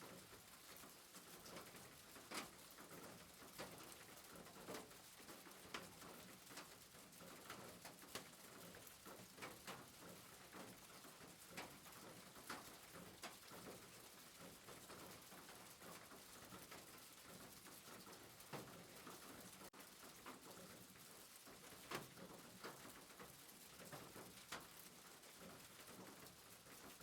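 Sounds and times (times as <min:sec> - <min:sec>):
raindrop ticks: 0:00.0 - 0:27.0
soft rain hiss: 0:00.0 - 0:27.0.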